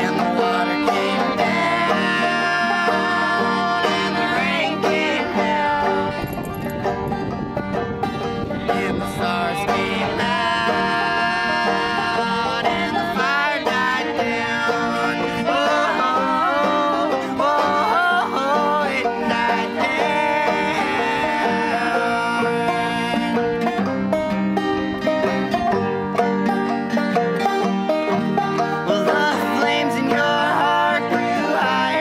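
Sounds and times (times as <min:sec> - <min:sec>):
acoustic guitar: 0:00.0 - 0:32.0
bowed fiddle: 0:00.0 - 0:32.0
picked banjo: 0:00.0 - 0:32.0.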